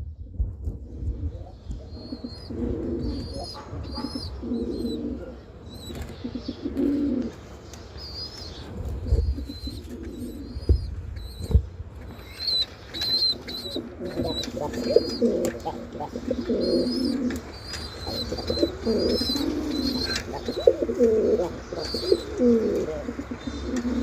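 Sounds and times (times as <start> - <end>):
bird cooing: 0.9 - 7.3, 9.1 - 10.8, 13.0 - 24.0.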